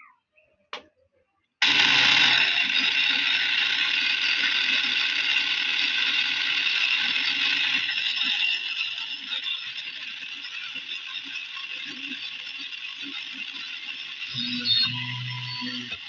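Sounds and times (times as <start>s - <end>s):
mini drill whining: 1.6s - 16.0s.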